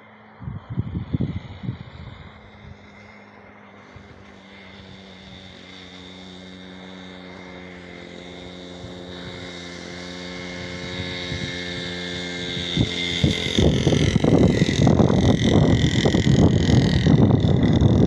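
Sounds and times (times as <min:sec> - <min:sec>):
small motorcycle engine buzzing: 0:00.0 - 0:18.0.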